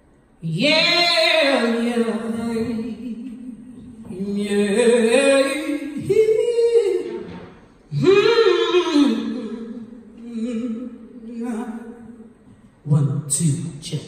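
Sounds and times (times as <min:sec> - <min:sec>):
woman singing unaccompanied: 0:00.4 - 0:12.3.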